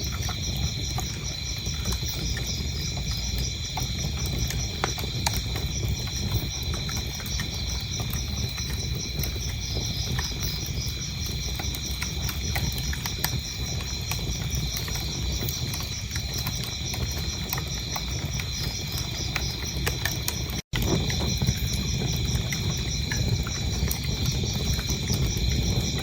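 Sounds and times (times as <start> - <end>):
crickets chirping: 0.0 - 26.0
wood fire crackling and popping: 0.0 - 26.0.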